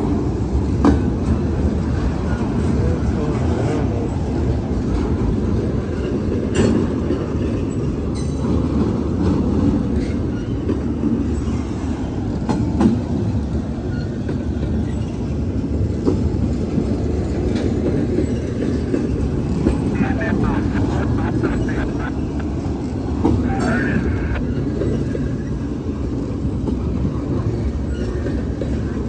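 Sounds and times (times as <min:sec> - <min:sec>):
train cars clanking: 0:00.0 - 0:29.0
train wheels rumbling on rail: 0:00.0 - 0:29.0.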